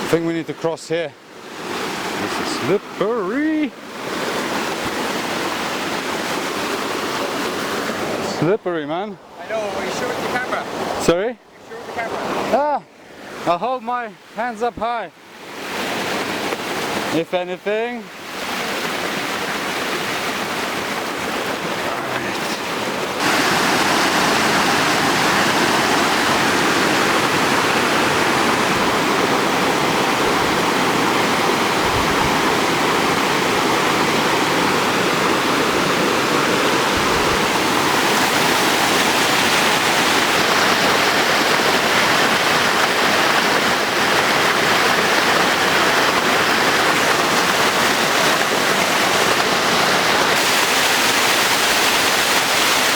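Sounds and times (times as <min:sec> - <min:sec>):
mountain stream rushing: 0:00.0 - 0:52.9.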